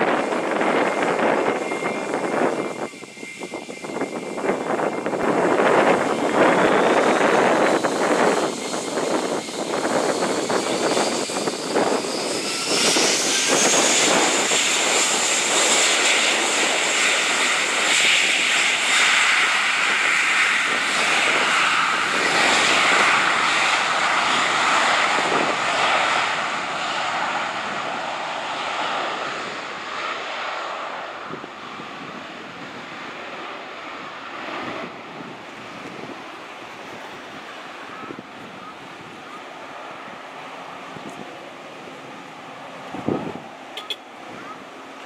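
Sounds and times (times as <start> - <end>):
jet engines spooling up: 0.0 - 45.0.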